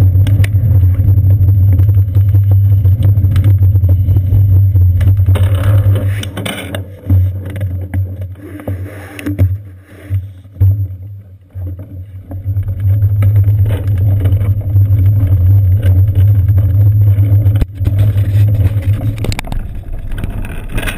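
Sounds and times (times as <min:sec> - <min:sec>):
bicycle wind and road rumble: 0:00.0 - 0:20.9.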